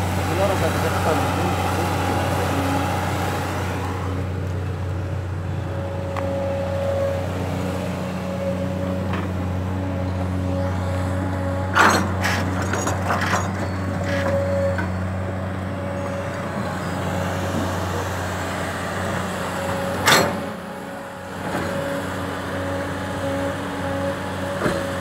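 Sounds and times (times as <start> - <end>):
engine whine: 0.0 - 25.0
excavator diesel engine running: 0.0 - 25.0.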